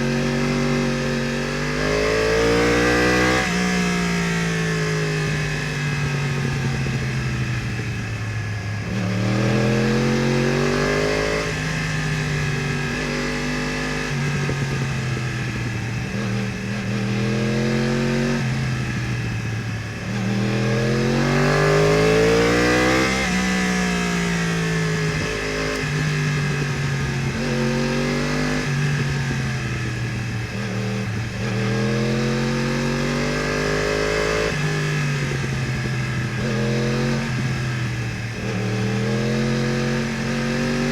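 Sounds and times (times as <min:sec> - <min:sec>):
motorcycle accelerating hard: 0:00.0 - 0:40.9.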